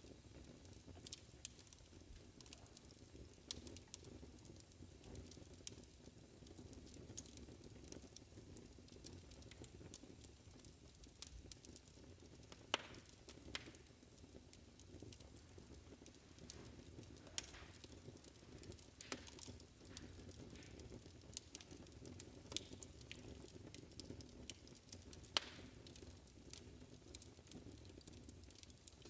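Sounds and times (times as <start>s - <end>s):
fire pops and ticks: 0.0s - 29.0s
fireplace crackling: 0.0s - 29.0s.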